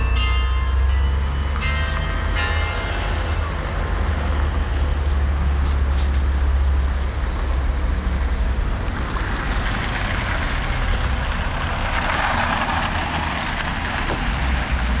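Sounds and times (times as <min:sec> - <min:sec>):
steady low traffic rumble: 0:00.0 - 0:15.0.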